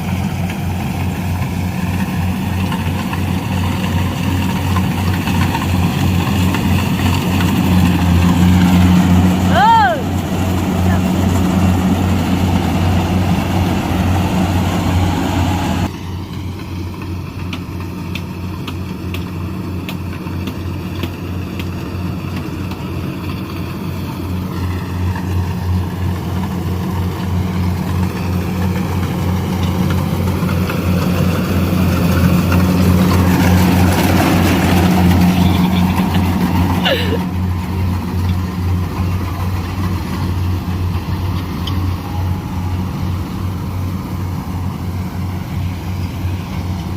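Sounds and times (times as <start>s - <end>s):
diesel engine pulsing: 0.0s - 46.9s.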